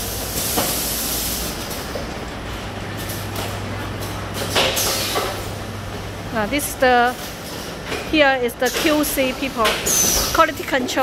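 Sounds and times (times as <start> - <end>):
factory machines running: 0.0 - 11.0.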